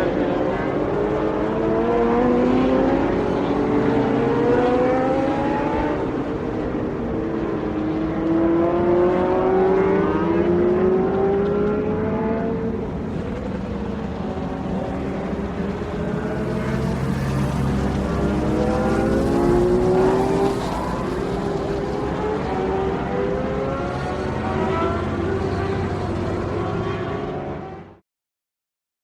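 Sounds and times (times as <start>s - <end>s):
racing motorcycle engine revving: 0.0s - 28.0s.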